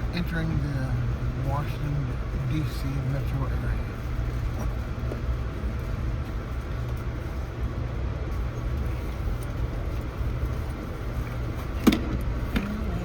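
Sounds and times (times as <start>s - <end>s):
train rumble inside coach: 0.0s - 13.0s.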